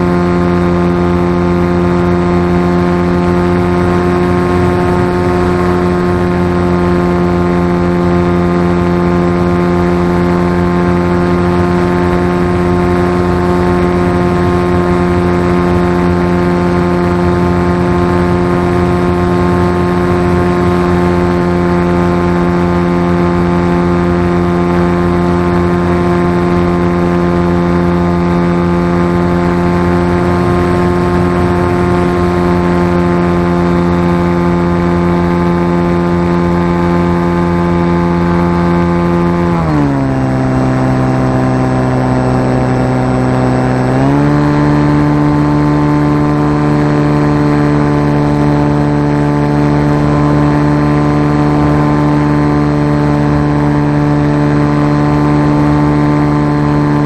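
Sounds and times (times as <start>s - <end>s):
model aircraft motor and propeller: 0.0s - 57.0s.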